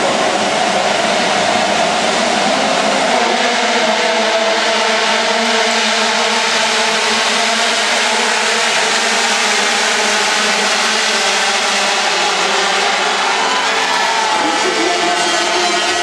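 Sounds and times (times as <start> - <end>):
motorcycles accelerating at high revs: 0.0 - 16.0.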